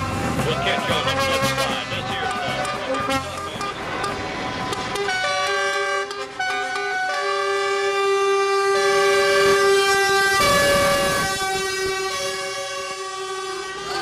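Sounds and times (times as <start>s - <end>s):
truck air horns blasting: 0.6s - 14.0s.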